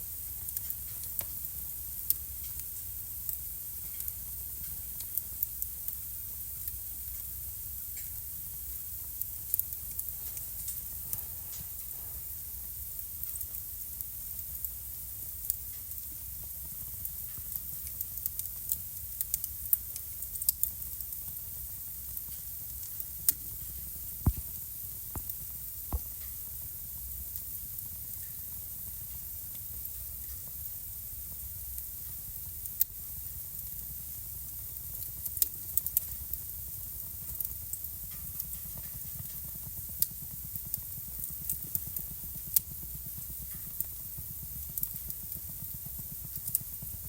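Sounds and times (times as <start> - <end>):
fire crackling and popping: 0.0 - 47.0
wood fire rumbling and hissing: 0.0 - 47.0.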